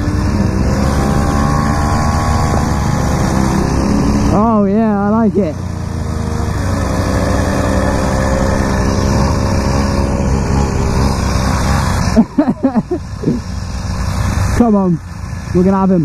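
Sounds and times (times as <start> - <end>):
motorcycle engines idling: 0.0 - 6.8, 7.4 - 16.0.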